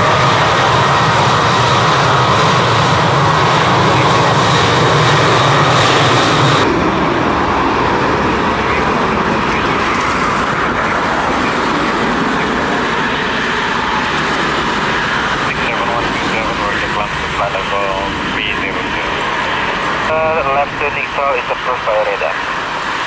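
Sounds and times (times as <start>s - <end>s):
jet engine whine: 0.0s - 23.0s
jet engines roaring: 0.0s - 23.0s.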